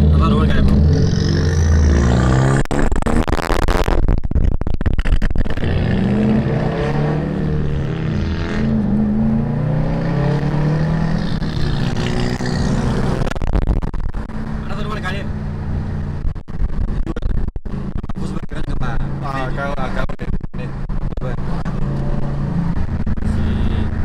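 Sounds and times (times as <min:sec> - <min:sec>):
car engine revving: 0:00.0 - 0:04.2, 0:05.1 - 0:24.0.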